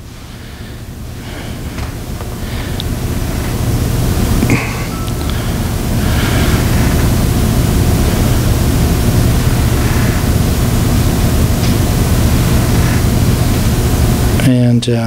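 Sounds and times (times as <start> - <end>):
low electrical hum: 0.0 - 15.0
steady microphone hiss: 0.0 - 15.0.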